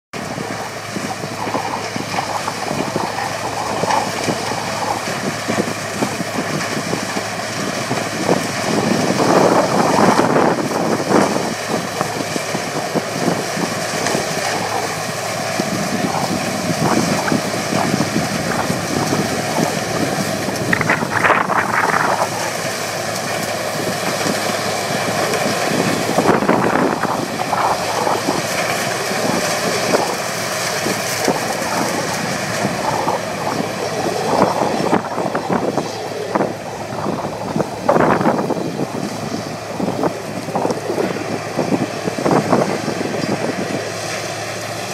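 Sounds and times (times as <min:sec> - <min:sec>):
tractor engine: 0:00.1 - 0:44.9
harvester mechanical din: 0:00.2 - 0:44.9.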